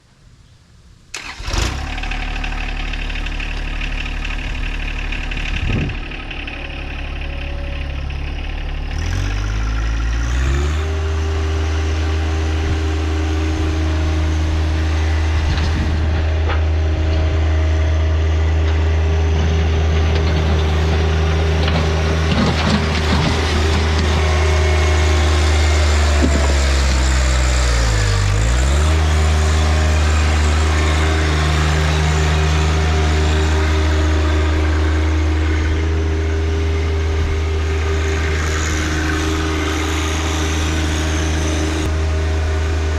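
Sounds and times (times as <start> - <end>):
tractor diesel engine running: 1.2 - 42.9.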